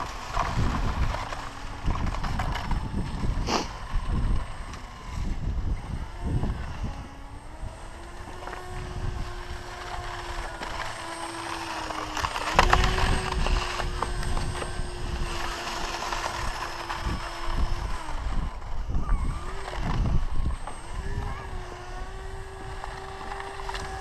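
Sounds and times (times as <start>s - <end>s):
steady motor drone: 0.0s - 24.0s
wind buffeting microphone: 0.0s - 24.0s.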